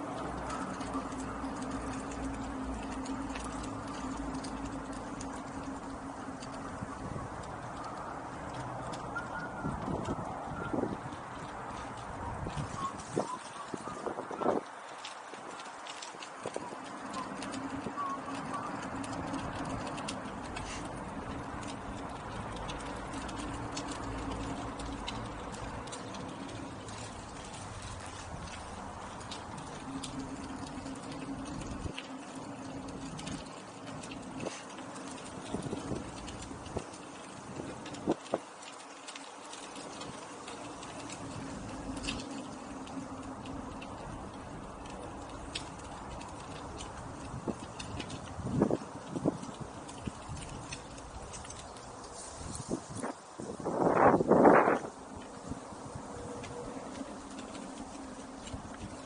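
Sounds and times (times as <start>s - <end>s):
electric unicycle motor hum: 0.0s - 59.0s
tyre and riding noise: 0.0s - 59.0s
wheel rolling over rough ground: 0.0s - 59.0s.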